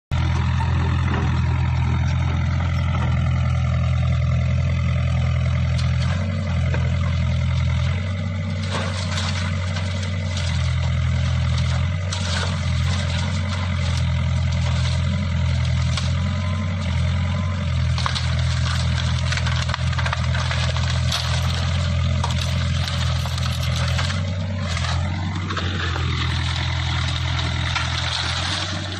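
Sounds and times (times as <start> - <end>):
excavator diesel engine running: 0.1 - 28.9
branches cracking being crushed: 1.6 - 28.9.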